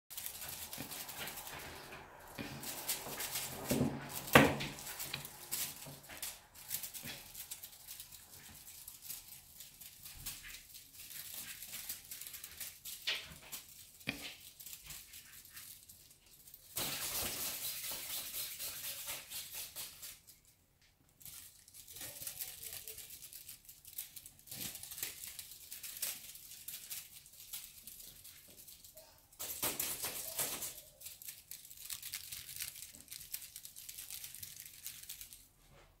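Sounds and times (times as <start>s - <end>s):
kittens rustling on a blanket: 0.1s - 36.0s.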